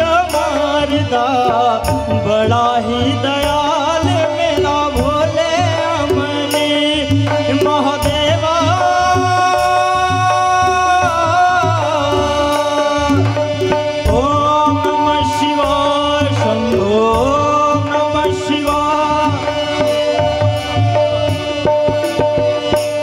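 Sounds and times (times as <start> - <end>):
harmonium and keyboard melody: 0.0 - 23.0
tabla rhythm: 0.0 - 23.0.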